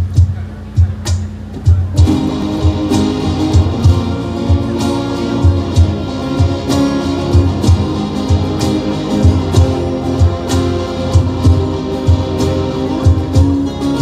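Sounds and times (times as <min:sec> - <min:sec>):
acoustic and electric guitars: 0:00.0 - 0:14.0
cajon beating rhythm: 0:00.0 - 0:14.0.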